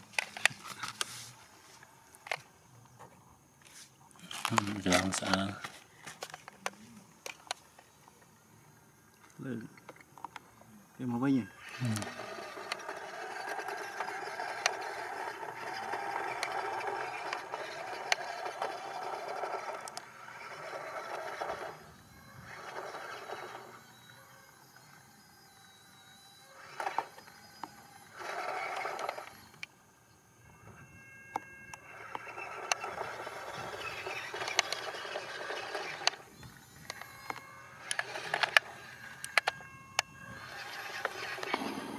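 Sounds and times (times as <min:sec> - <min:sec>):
small electric motor whining: 0:04.2 - 0:41.9.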